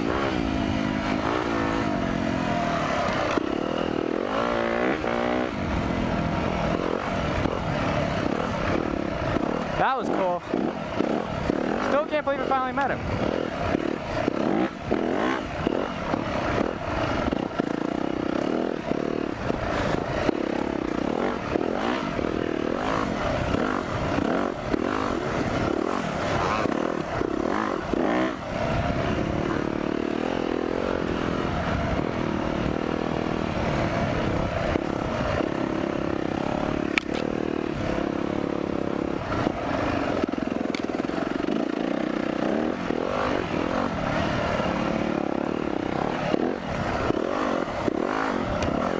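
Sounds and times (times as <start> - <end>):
motocross bike engine: 0.0 - 48.9.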